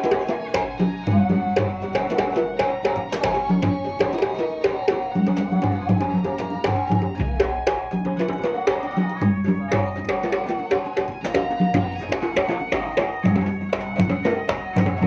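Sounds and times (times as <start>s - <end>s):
hand drums playing fast: 0.0s - 15.0s.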